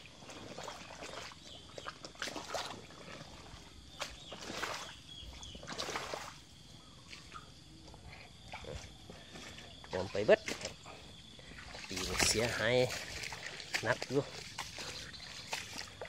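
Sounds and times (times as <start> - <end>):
small water splashes: 0.0 - 16.0.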